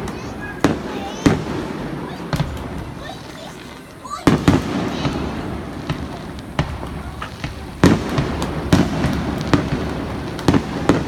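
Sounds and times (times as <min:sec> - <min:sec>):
fireworks bangs: 0:00.0 - 0:11.0
low background noise: 0:00.0 - 0:11.0.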